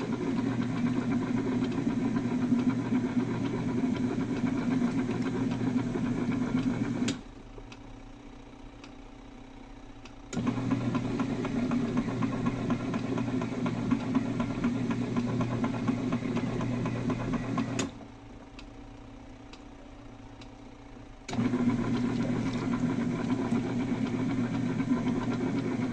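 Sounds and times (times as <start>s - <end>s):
washing machine motor humming: 0.0s - 25.9s.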